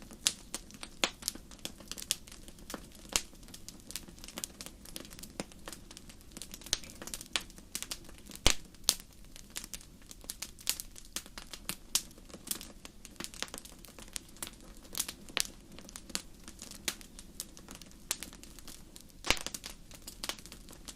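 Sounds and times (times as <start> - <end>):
low steady rush of fire: 0.0 - 20.9
wood fire crackling and popping: 0.0 - 20.9.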